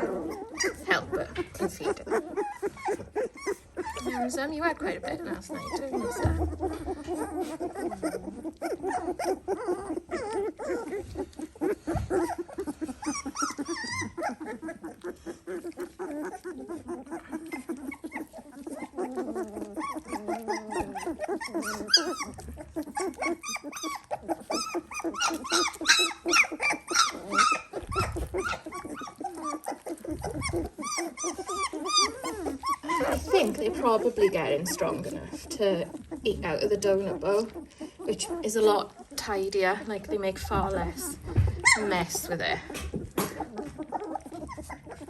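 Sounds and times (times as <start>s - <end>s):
puppies whining and squeaking: 0.0s - 45.0s.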